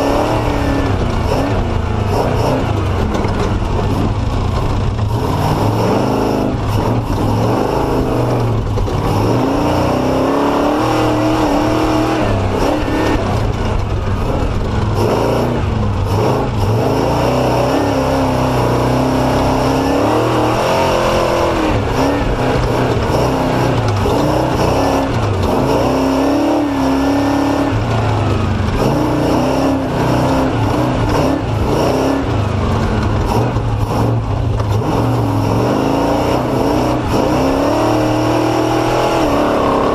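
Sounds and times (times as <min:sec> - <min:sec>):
engine revving: 0:00.0 - 0:39.9.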